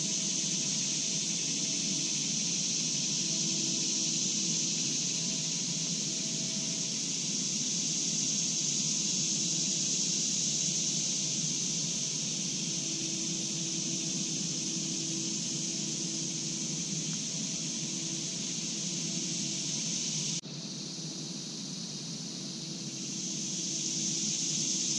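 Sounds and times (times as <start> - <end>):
insect chorus drone: 0.0 - 24.9.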